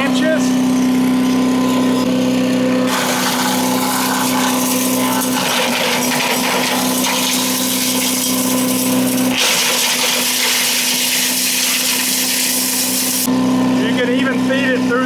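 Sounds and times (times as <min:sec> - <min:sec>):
wood chipper engine humming: 0:00.0 - 0:15.0.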